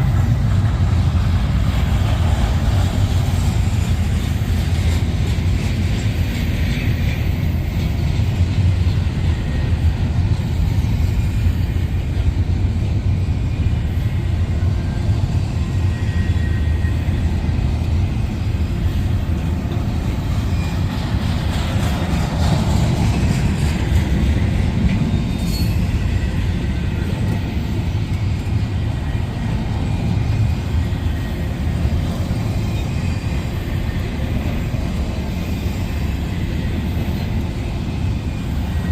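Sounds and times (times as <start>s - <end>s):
train cars clattering: 0.0s - 38.9s
train wheels rumbling on rail: 0.0s - 38.9s.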